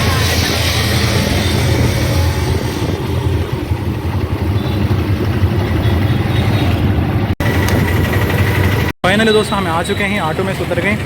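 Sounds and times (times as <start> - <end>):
auto-rickshaw engine humming: 0.0 - 11.0
road noise: 0.0 - 11.0.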